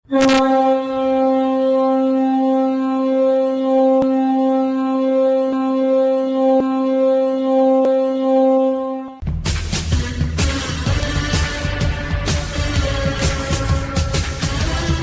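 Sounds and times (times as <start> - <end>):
goal horn low blast: 0.1 - 9.2, 9.9 - 15.0.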